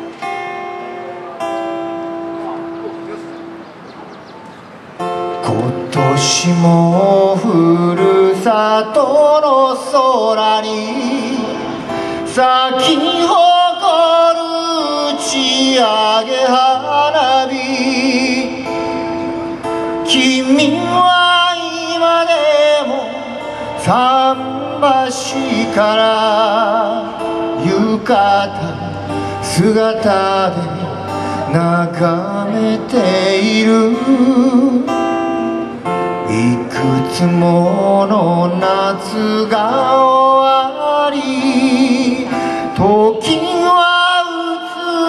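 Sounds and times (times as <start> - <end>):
acoustic guitar: 0.0 - 45.0
man singing into microphone: 5.0 - 45.0.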